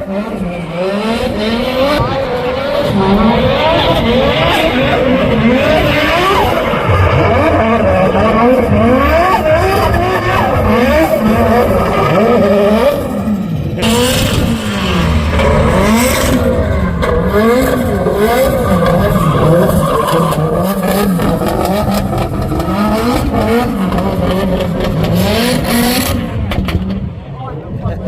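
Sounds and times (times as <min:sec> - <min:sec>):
tyres skidding: 0:00.0 - 0:27.0
car engine revving: 0:00.0 - 0:27.3.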